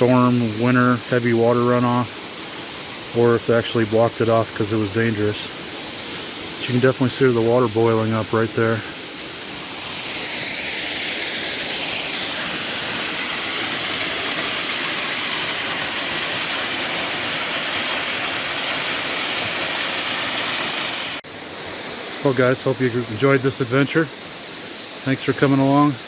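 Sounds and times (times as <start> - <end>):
waterfall pouring into pool: 0.0 - 26.0.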